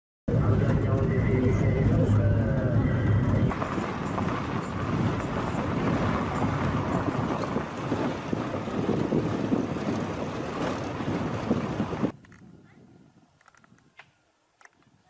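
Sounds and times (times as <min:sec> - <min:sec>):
wind on microphone: 0:02.2 - 0:15.0.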